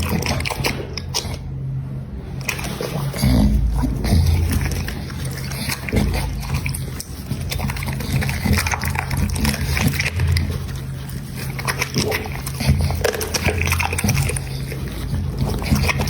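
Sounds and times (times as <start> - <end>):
dog eating noisily: 0.0 - 16.0.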